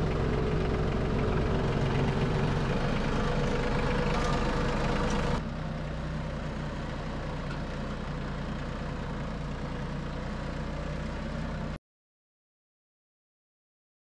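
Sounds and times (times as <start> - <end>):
tractor engine running: 0.0 - 11.8.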